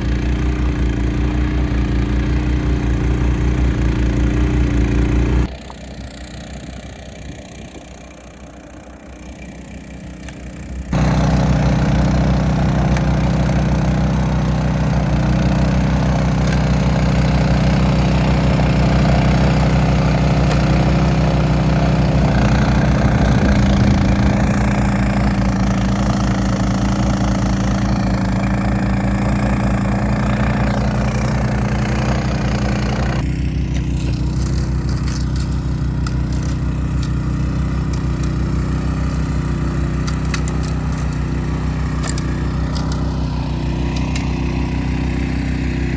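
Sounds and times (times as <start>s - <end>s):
snowblower engine running: 0.0s - 45.9s.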